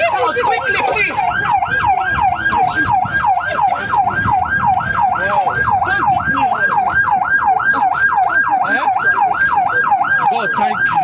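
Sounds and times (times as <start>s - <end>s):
fire engine siren yelping: 0.0s - 11.0s
voices murmuring: 0.0s - 11.0s.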